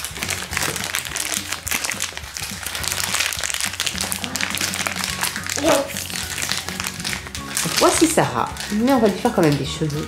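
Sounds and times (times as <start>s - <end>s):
background music: 0.0s - 10.0s
plastic bag crinkling: 0.0s - 10.0s.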